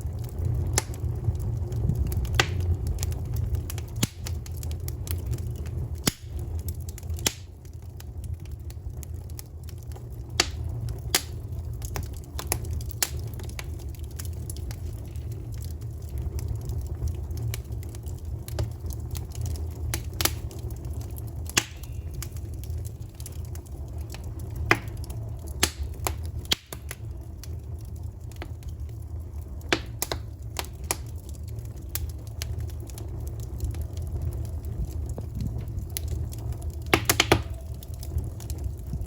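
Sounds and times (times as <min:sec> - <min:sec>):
low rumble: 0:00.0 - 0:39.0
wood fire crackling: 0:00.0 - 0:39.0.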